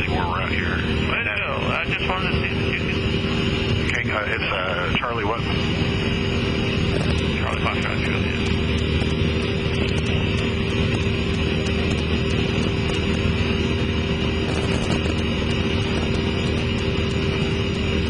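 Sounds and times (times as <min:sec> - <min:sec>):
airplane engine droning in flight: 0:00.0 - 0:18.0.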